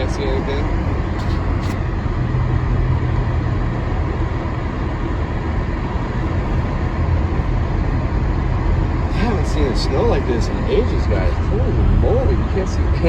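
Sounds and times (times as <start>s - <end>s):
car road and engine drone: 0.0s - 13.0s.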